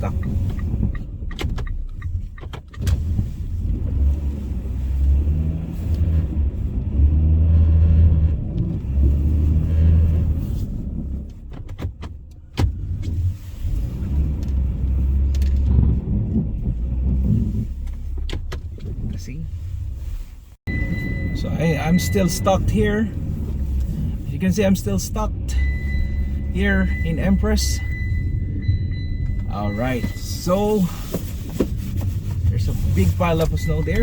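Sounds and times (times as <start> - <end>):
car engine revving: 3.0 - 11.6, 12.7 - 20.1, 20.7 - 34.0.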